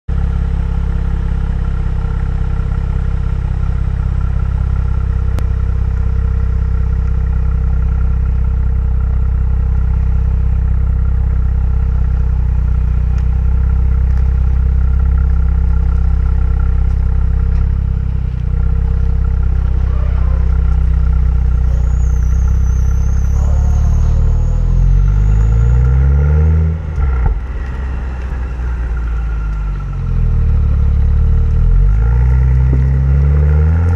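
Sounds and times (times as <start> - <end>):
car engine droning and revving: 0.1 - 33.9.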